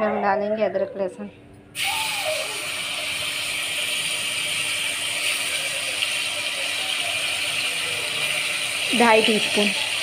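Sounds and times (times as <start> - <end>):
paste sizzling in hot oil: 1.8 - 10.0.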